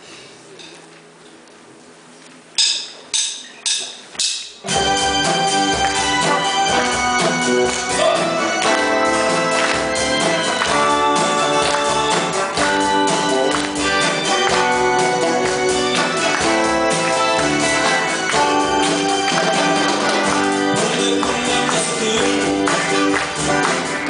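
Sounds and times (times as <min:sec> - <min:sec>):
live band playing: 0:04.5 - 0:24.0.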